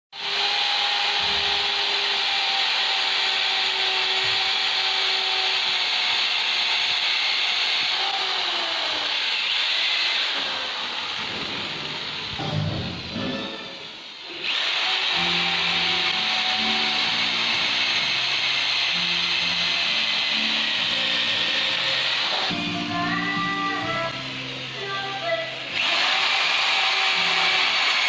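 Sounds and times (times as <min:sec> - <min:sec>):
power tool sanding wood: 0:00.2 - 0:13.2, 0:14.3 - 0:28.0.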